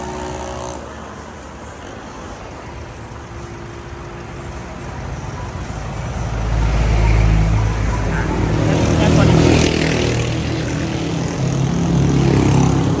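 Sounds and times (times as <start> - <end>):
road noise: 0.0 - 13.0
vehicle engine running: 1.6 - 13.0.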